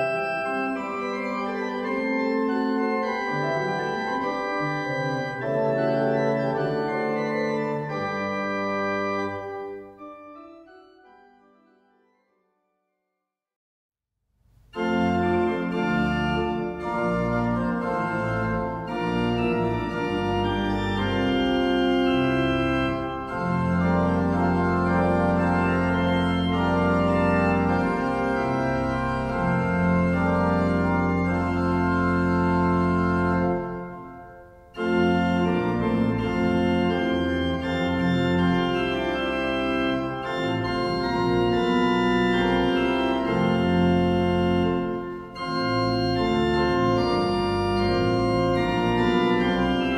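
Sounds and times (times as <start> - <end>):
pipe organ playing hymn chords: 0.0 - 12.1, 14.7 - 49.9.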